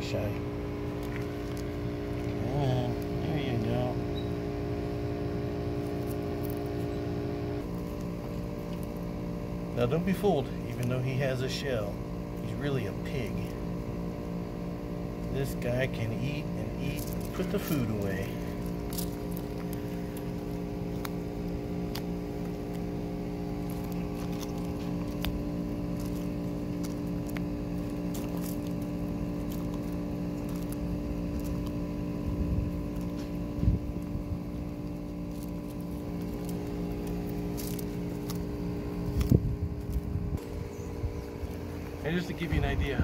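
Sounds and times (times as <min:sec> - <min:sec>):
mechanical hum: 0:00.0 - 0:43.0
tortoise chewing with soft crunches: 0:00.0 - 0:43.0.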